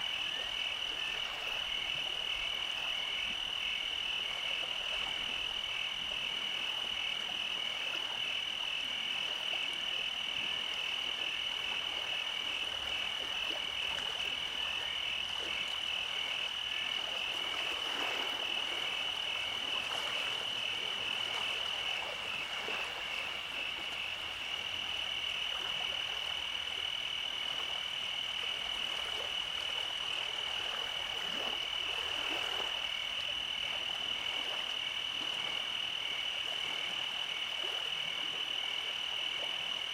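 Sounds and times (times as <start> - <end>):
frogs calling in pulsing drone: 0.0 - 39.9.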